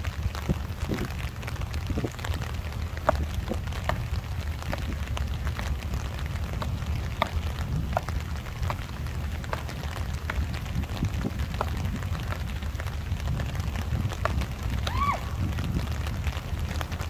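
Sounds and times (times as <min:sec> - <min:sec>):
rain falling: 0:00.0 - 0:17.0
steady low rumble: 0:00.0 - 0:17.0.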